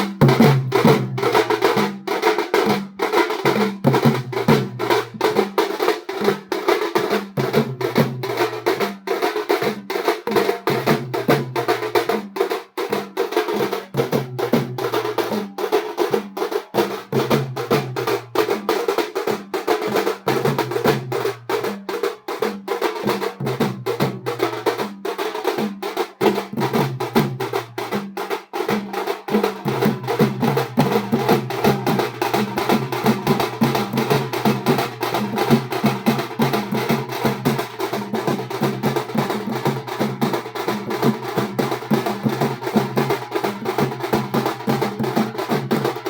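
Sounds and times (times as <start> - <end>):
drums beaten rapidly with sticks: 0.0 - 46.0.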